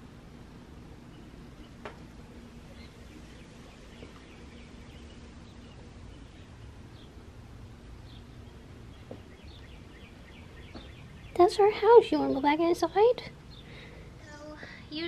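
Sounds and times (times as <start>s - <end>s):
faint birds chirping: 0.0s - 15.0s
low outdoor rumble: 0.0s - 15.0s.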